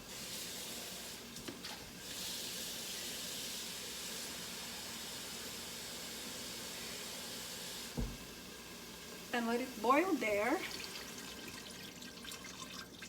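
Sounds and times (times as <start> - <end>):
liquid sizzling in hot pan: 0.0 - 13.0.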